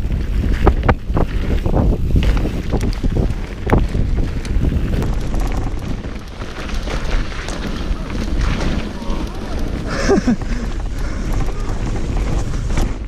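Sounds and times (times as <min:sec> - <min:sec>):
bike knocking and rattling: 0:00.0 - 0:13.0
low rumble: 0:00.0 - 0:13.0
wind rushing over microphone: 0:00.0 - 0:13.0.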